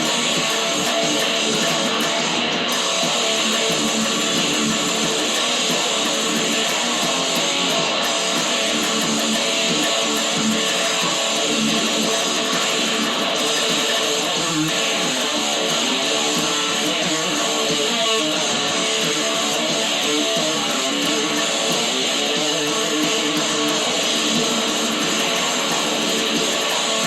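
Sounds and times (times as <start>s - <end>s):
strummed guitar: 0.0s - 27.0s.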